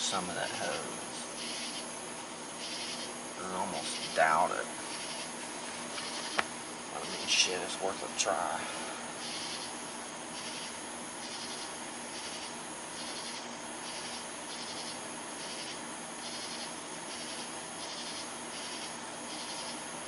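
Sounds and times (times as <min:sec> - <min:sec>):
faint steady hum: 0:00.0 - 0:20.0
insects chirping: 0:00.0 - 0:20.0.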